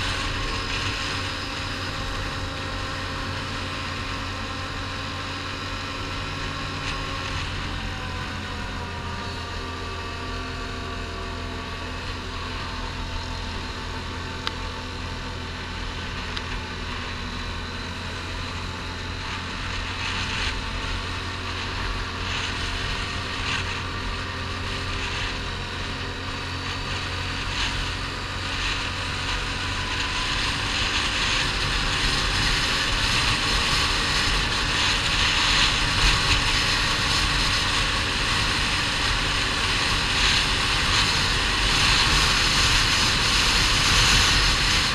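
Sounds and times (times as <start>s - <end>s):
quad bike engine running: 0.0s - 44.9s
wind rushing over microphone: 0.0s - 44.9s.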